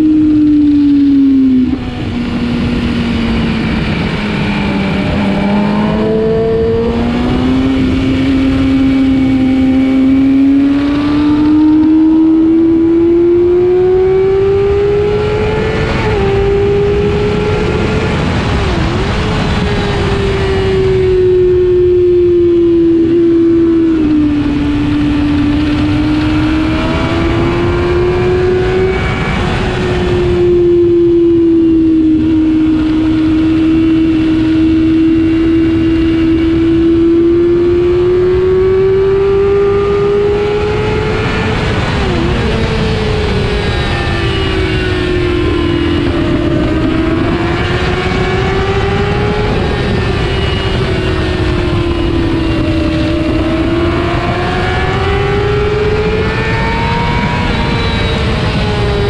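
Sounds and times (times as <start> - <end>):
motorcycle engine at high revs: 0.0 - 59.0
wind rush on microphone: 0.0 - 59.0.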